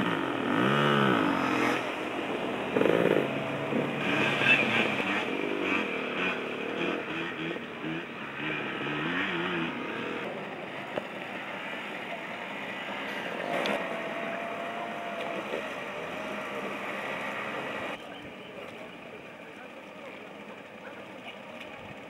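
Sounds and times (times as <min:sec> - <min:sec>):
moped engines running: 0:00.0 - 0:22.0.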